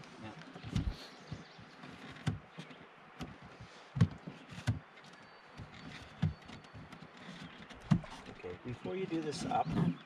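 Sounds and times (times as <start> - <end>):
low wooden knocks: 0.6 - 10.0.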